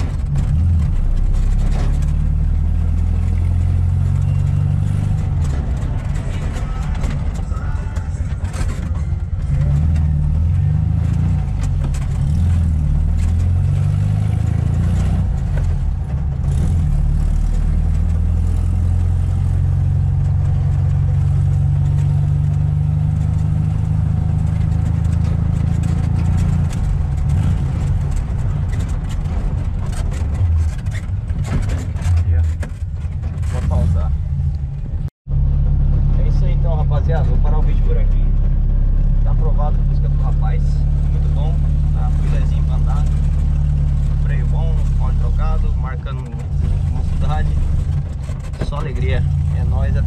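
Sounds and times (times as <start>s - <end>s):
car engine heard from cabin: 0.0s - 50.0s.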